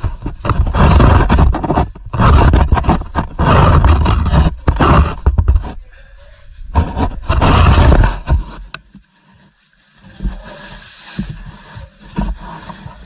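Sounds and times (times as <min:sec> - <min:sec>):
rubbing on microphone: 0:00.0 - 0:13.0.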